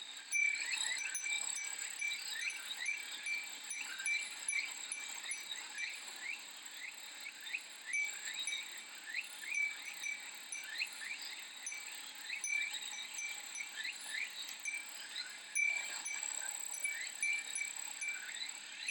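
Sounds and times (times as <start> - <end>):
wind chime tinkling: 0.3 - 6.4, 7.8 - 18.9
cicadas droning: 0.3 - 18.9.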